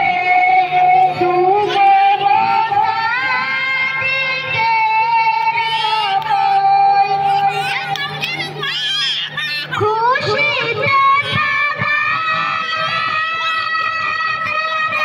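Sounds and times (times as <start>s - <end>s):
boy chanting into a microphone: 0.0s - 8.9s, 9.7s - 15.0s.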